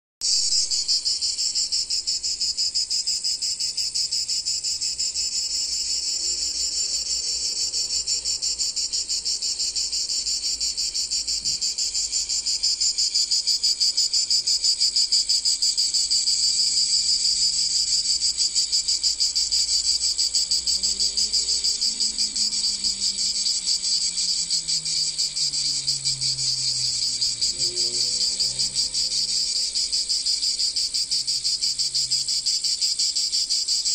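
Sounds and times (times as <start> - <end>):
cicadas buzzing chorus: 0.2 - 33.9.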